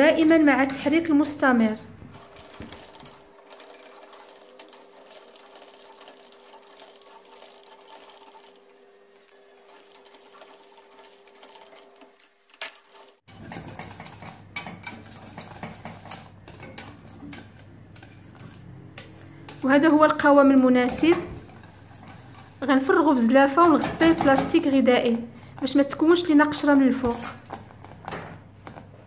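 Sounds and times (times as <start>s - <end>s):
whisk scraping metal pan: 0.0s - 25.0s, 25.6s - 27.7s.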